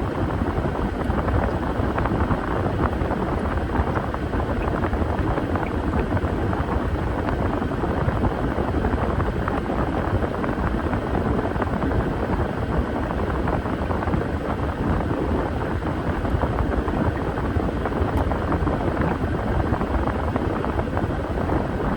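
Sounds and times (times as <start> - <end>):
washing machine rumbling: 0.0 - 21.9.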